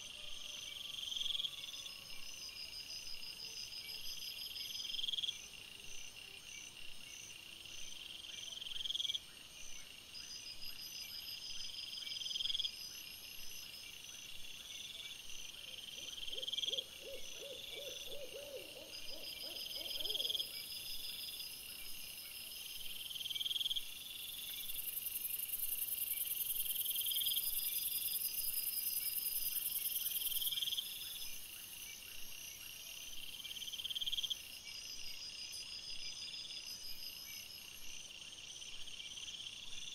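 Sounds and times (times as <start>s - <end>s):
low pulsing insect call: 0.0s - 39.9s.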